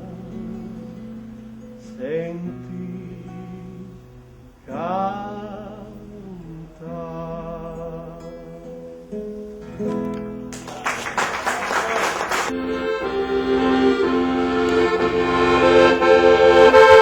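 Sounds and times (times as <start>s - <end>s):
acoustic guitar: 0.0s - 11.6s, 12.2s - 17.0s.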